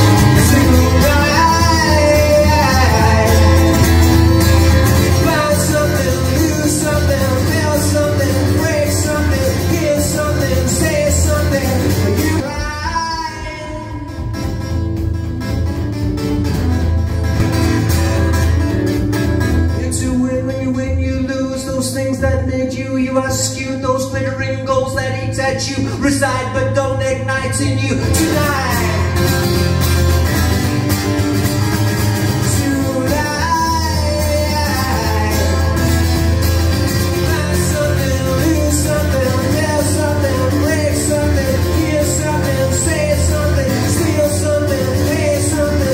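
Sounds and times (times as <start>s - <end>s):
man singing into a microphone: 0.0s - 14.4s, 19.7s - 29.8s, 32.2s - 36.2s, 37.0s - 45.9s
acoustic guitar strumming: 0.0s - 25.6s, 26.5s - 45.9s.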